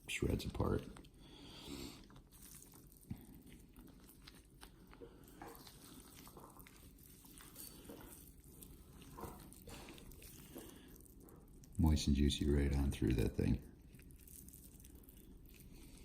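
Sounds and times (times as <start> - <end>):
wet tearing of shredded meat: 0.8 - 16.0.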